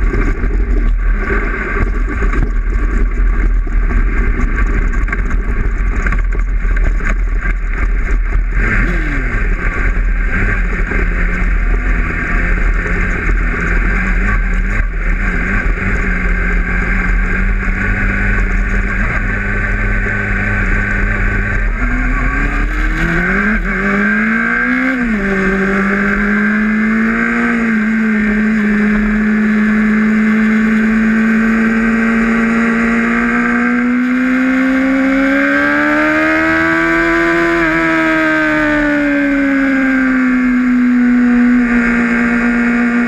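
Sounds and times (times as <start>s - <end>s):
low rumble: 0.0s - 35.0s
motorcycle engine revving: 0.0s - 43.0s.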